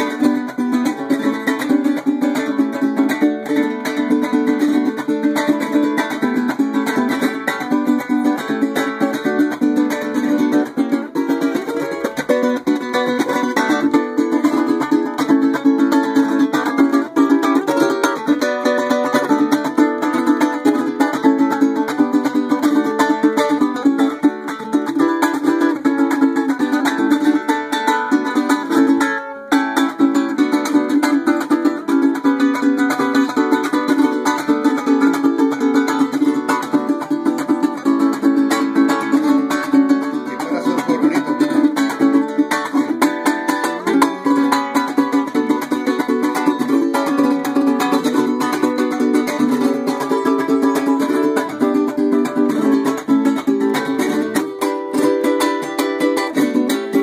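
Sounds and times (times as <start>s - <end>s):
small string instrument strummed: 0.0s - 57.0s.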